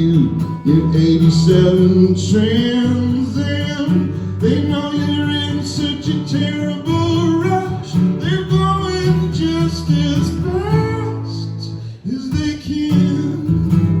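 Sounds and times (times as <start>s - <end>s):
guitars playing rock: 0.0s - 11.8s, 12.4s - 14.0s
man singing: 0.0s - 14.0s.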